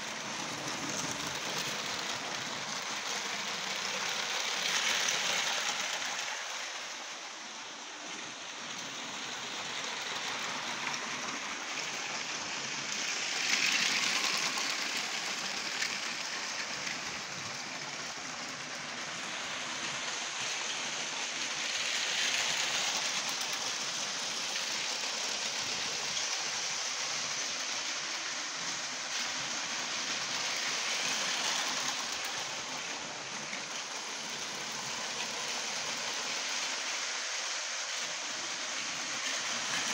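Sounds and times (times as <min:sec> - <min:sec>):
toy trains rattling on track: 0:00.0 - 0:39.9.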